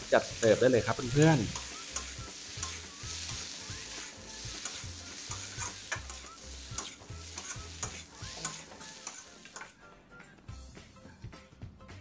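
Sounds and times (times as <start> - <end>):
food sizzling: 0.0 - 9.9.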